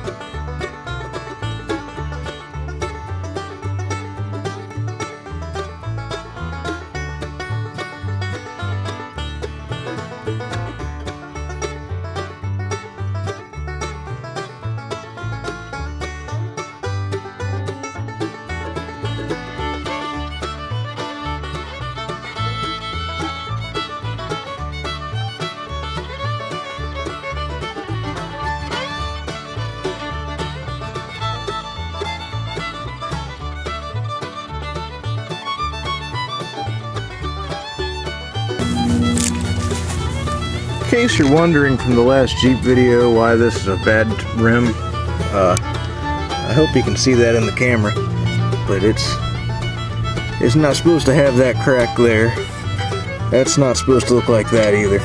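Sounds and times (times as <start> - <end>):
bluegrass fiddle music: 0.0 - 55.0
plucked banjo: 0.0 - 55.0
quick picked notes: 0.0 - 55.0
walking bass: 0.0 - 55.0.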